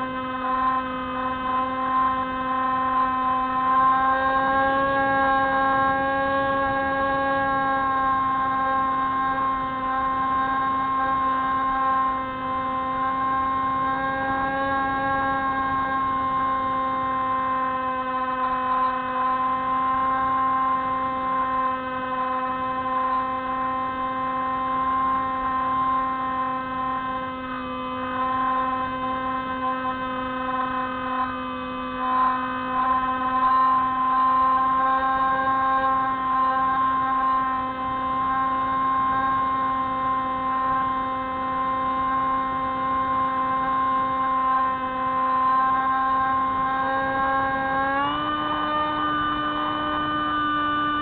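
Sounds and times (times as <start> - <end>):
model plane propeller drone: 0.0 - 51.0.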